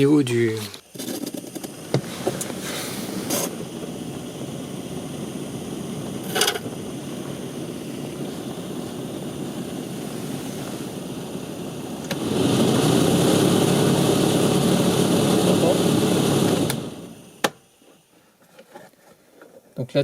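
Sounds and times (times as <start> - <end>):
blower fan motor whirring: 0.0 - 18.1.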